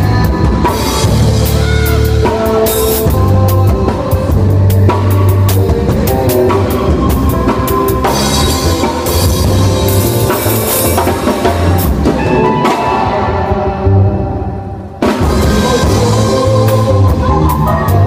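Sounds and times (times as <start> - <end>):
drum kit beat: 0.0 - 14.2, 15.0 - 18.0
low bass notes: 0.0 - 18.0.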